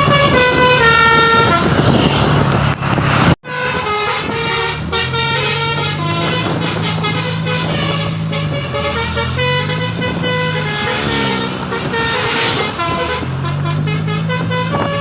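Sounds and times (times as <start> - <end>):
bus horn playing a tune: 0.0 - 2.3, 3.4 - 15.0
bus engine revving: 0.0 - 15.0.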